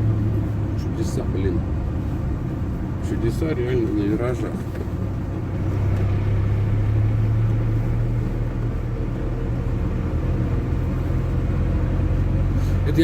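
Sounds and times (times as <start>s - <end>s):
road noise: 0.0s - 13.0s
van engine humming: 0.0s - 13.0s.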